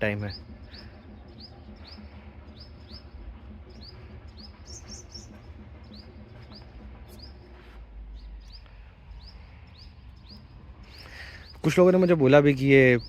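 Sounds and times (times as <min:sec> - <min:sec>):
faint low rumble: 0:00.0 - 0:13.0
small birds chirping: 0:00.0 - 0:13.0.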